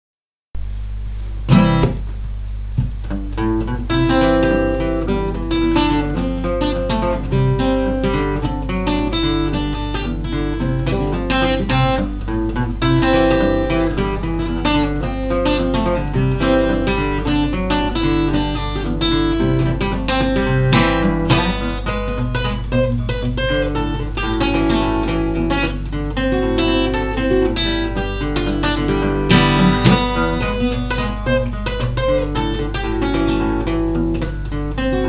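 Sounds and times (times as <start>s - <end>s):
steady low hum: 0.6s - 33.3s
fingerstyle acoustic guitar: 1.5s - 2.1s, 2.8s - 35.0s.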